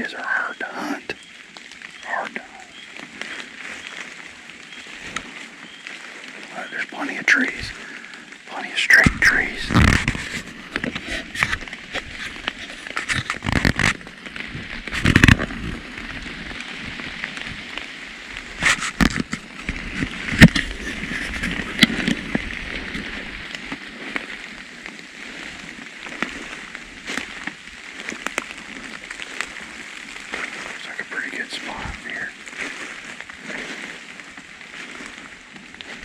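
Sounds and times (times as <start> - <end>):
light rain on leaves: 0.0 - 36.0
footsteps through undergrowth: 1.1 - 36.0.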